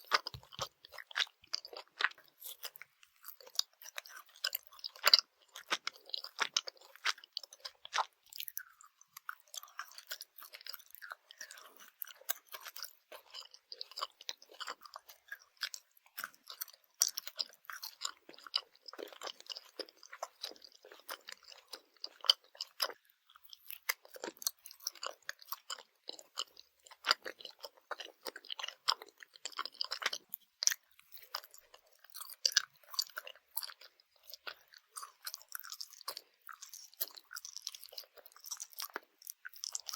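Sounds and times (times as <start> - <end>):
chewing gummy candy: 0.0 - 39.9.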